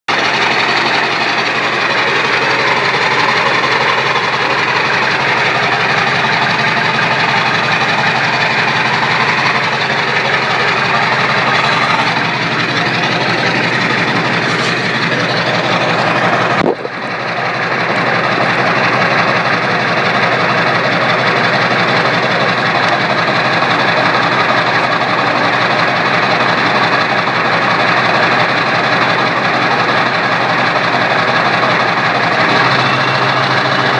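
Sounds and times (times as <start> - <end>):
engine through straight-pipe exhaust: 0.1 - 33.9
turbocharger whine: 0.1 - 33.9.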